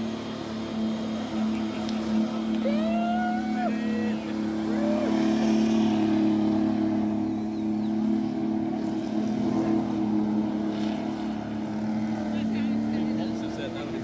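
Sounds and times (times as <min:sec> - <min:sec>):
diesel engine at high revs: 0:00.0 - 0:14.0.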